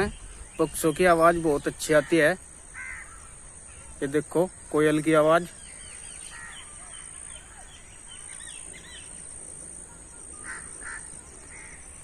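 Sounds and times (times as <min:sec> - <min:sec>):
short bird calls: 0:00.0 - 0:04.0, 0:05.5 - 0:12.0
birds chirping: 0:00.0 - 0:12.0.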